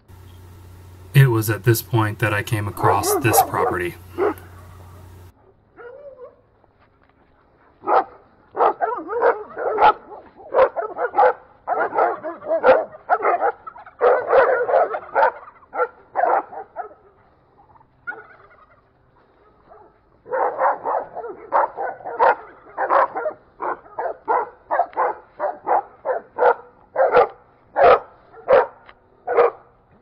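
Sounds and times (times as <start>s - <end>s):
dogs barking: 2.2s - 6.4s, 7.8s - 29.8s.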